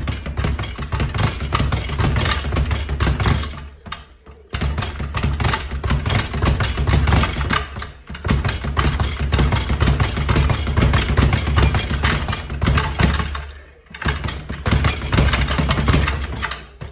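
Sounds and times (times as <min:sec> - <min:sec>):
speed bag rattling: 0:00.0 - 0:16.9.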